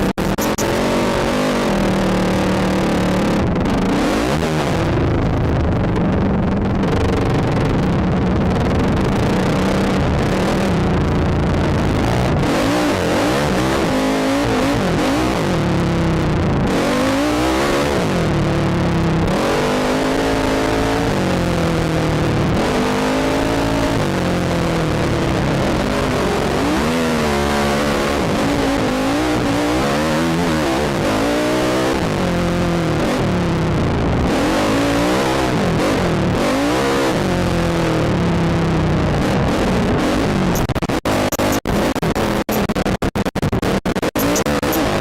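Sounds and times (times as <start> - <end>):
quad bike engine revving: 0.0 - 45.0.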